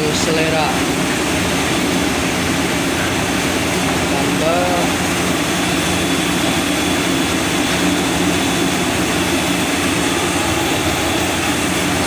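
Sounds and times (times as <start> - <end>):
loud mechanical drone: 0.0 - 12.0.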